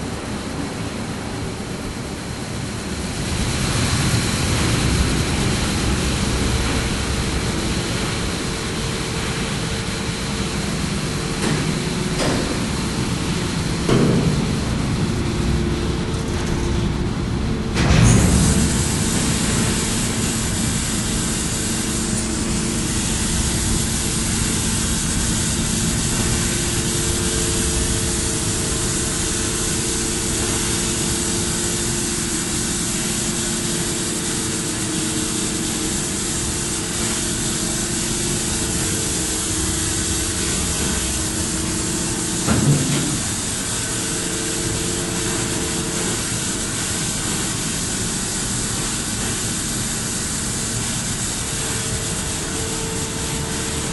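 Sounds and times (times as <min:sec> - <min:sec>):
ship machinery drone: 0:00.0 - 0:53.9.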